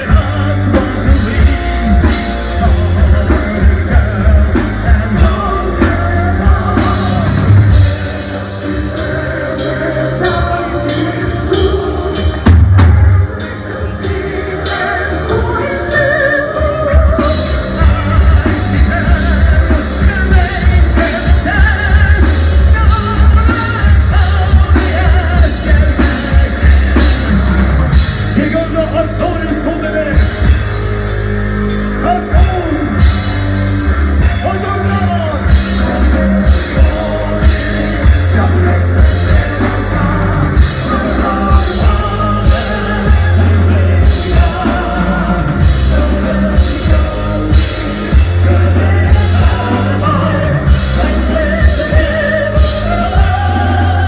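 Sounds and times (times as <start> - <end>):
person singing: 0.0 - 30.6, 34.2 - 54.0
metal band playing live: 0.0 - 54.0.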